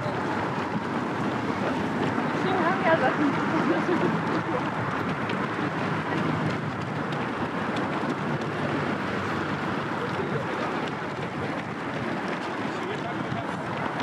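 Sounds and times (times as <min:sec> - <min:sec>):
runners footfalls: 0:00.0 - 0:14.0
wind on microphone: 0:00.0 - 0:14.0.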